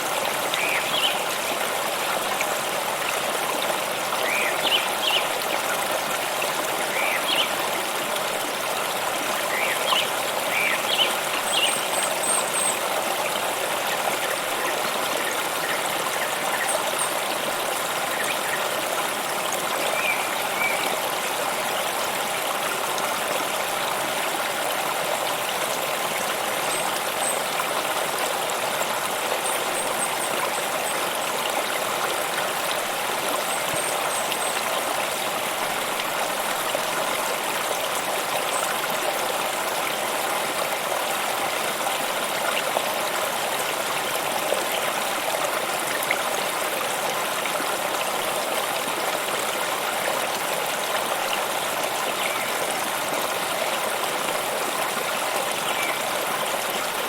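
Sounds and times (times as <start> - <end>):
stream water flowing and splashing: 0.0 - 57.0.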